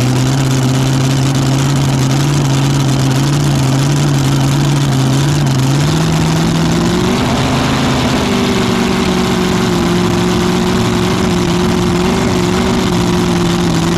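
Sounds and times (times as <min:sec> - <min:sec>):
racing engine idling: 0:00.0 - 0:13.9.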